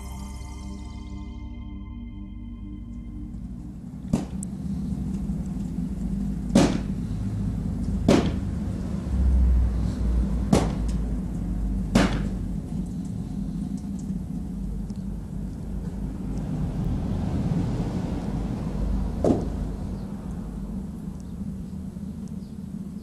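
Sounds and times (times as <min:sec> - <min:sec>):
low hum and rumble: 0:00.0 - 0:23.0.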